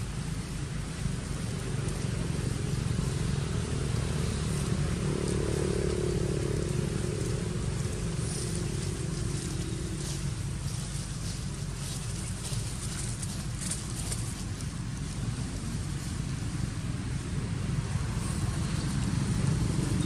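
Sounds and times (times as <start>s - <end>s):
motor engine running: 0.0s - 20.0s.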